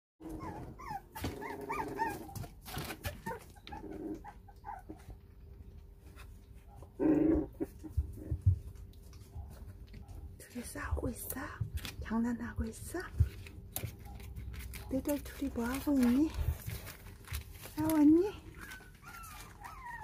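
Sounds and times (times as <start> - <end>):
puppies whining and yelping: 0.2 - 10.3, 13.6 - 20.0.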